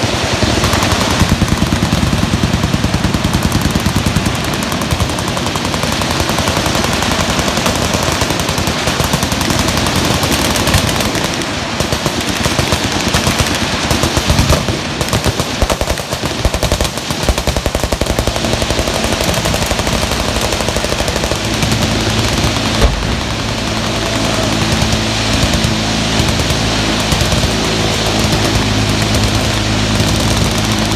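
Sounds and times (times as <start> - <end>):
machine guns firing: 0.0 - 30.9.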